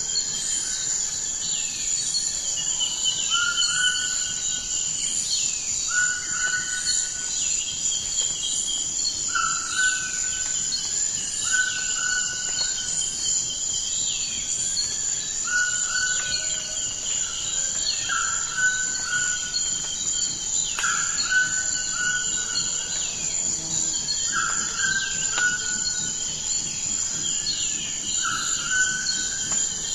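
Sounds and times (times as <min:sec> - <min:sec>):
high insect drone: 0:00.0 - 0:29.9
birdsong: 0:01.5 - 0:29.9.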